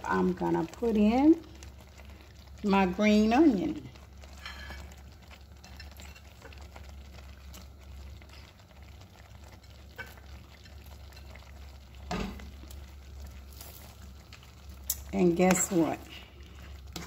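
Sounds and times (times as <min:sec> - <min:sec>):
stew bubbling in a pan: 0:00.0 - 0:17.0.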